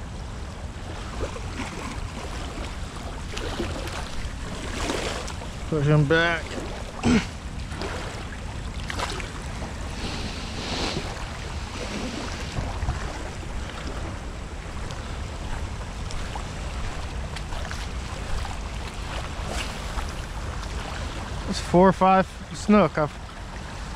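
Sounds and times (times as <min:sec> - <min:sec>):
wind buffeting microphone: 0:00.0 - 0:21.6
water rushing from outflow: 0:00.4 - 0:23.9.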